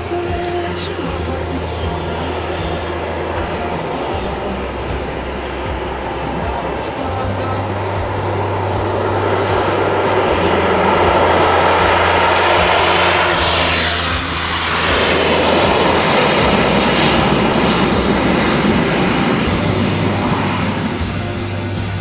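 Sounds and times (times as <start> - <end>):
high turbine whine: 0.0 - 22.0
jet engines roaring: 0.0 - 22.0.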